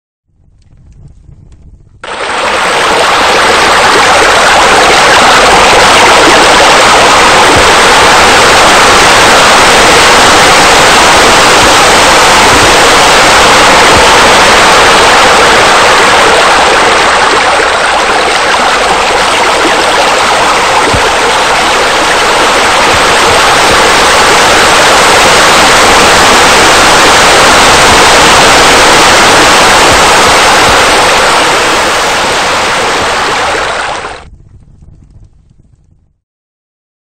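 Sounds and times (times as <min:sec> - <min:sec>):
water rushing: 0:02.0 - 0:34.3.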